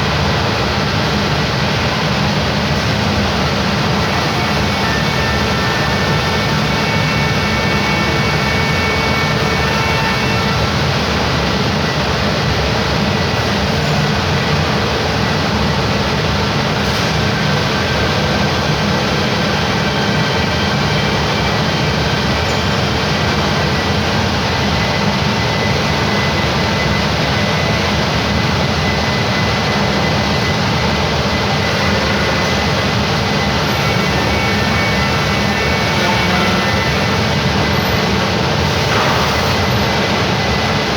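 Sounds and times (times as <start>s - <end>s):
spindle high whine: 0.1s - 39.0s
cnc router cutting wood: 0.4s - 40.9s.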